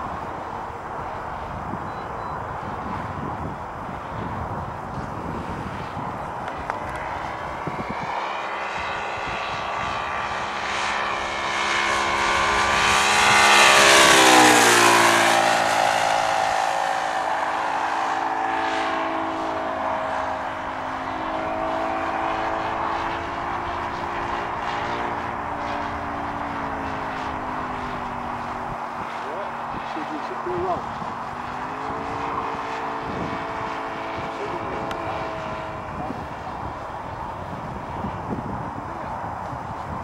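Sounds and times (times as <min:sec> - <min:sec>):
model aircraft engine flying past: 0:00.0 - 0:40.0.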